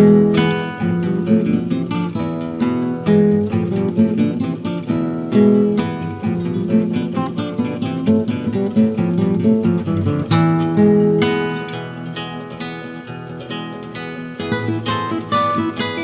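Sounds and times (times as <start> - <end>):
acoustic guitars playing: 0.0 - 16.0.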